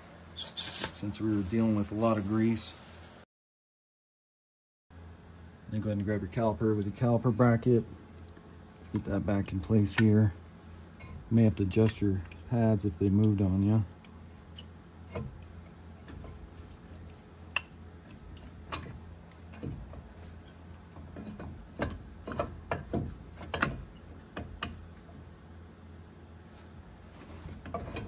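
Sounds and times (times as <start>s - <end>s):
steady low hum: 4.9s - 28.0s.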